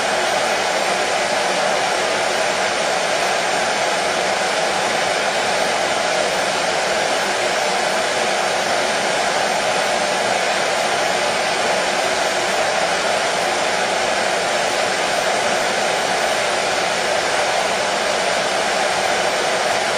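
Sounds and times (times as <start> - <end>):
hair dryer running: 0.0 - 19.9.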